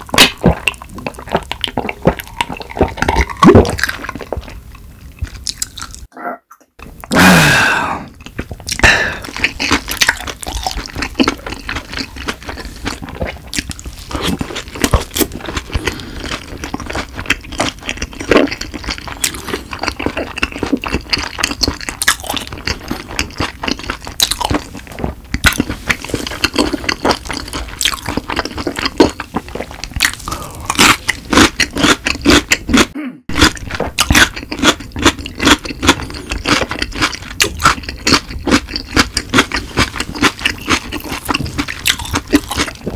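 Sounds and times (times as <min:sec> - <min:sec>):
crunchy chewing: 0:08.2 - 0:42.9.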